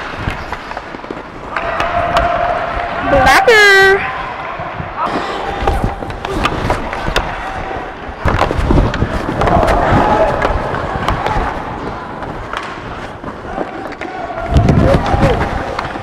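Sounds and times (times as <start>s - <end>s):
skate blades scraping ice: 0.0s - 3.4s, 5.0s - 16.0s
hockey sticks and puck clicking: 0.0s - 3.6s, 4.4s - 16.0s.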